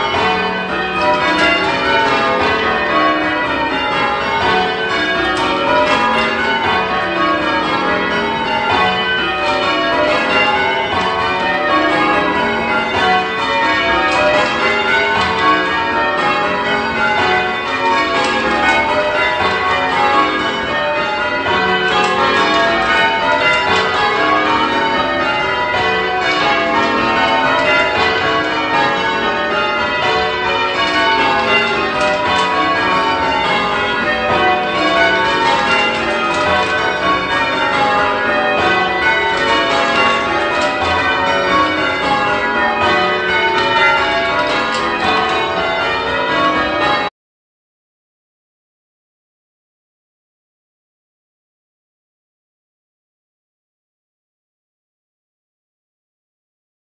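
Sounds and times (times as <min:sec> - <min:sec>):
church bells ringing: 0:00.0 - 0:47.1.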